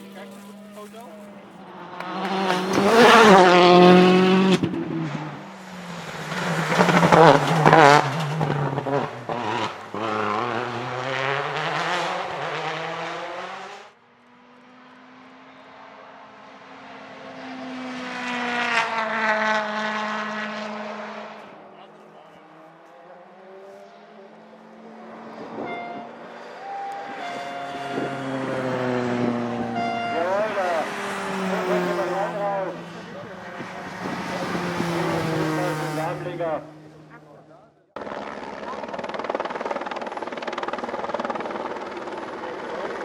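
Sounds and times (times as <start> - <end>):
rally car engine revving: 0.0 - 14.6, 16.8 - 43.0
car approaching: 0.0 - 43.0.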